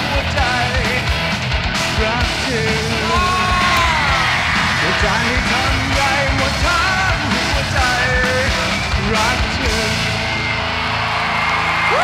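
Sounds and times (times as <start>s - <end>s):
man singing and yelling: 0.0s - 10.3s
drums: 0.0s - 12.0s
live rock band playing: 0.0s - 12.0s.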